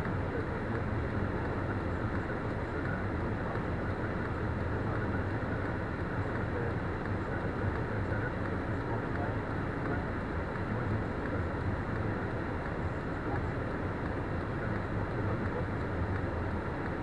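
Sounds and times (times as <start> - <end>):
vehicle rumbling on road: 0.0 - 17.0.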